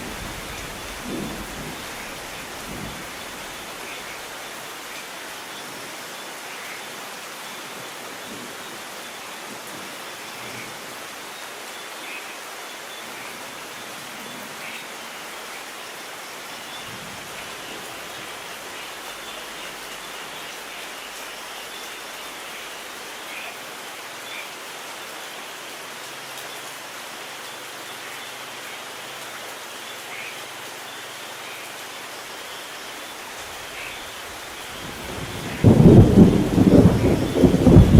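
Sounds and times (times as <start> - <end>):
individual raindrops: 0.0 - 37.9
steady rain: 0.0 - 37.9.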